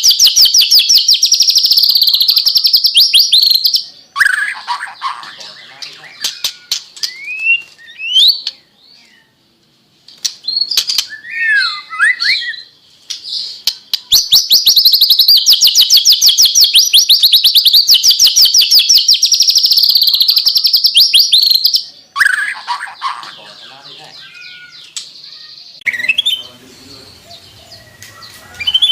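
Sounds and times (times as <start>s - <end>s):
bird singing whistled phrases: 0.0s - 9.3s, 10.4s - 28.9s.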